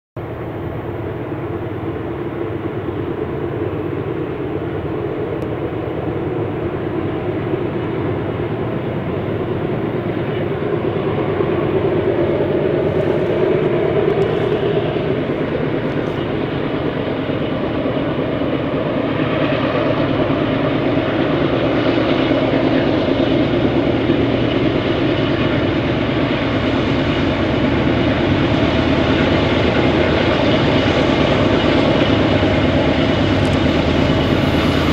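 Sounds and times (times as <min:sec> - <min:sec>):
diesel locomotive engine drone: 0:00.2 - 0:34.9.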